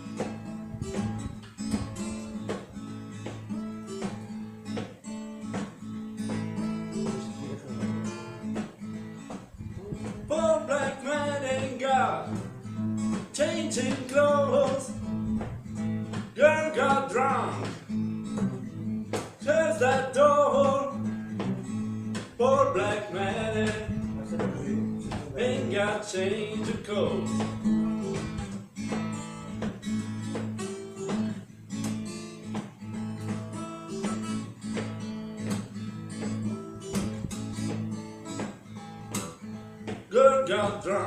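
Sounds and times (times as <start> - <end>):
acoustic guitar blues: 0.0 - 41.0.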